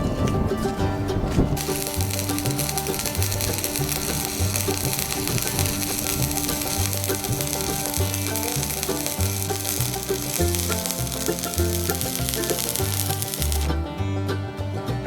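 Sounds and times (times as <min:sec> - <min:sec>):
background music: 0:00.0 - 0:15.0
welding arc crackling sizzle: 0:01.6 - 0:13.7.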